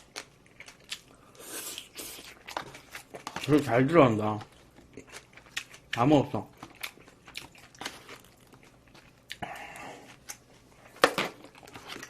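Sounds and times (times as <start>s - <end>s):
close chewing: 0.0s - 10.8s.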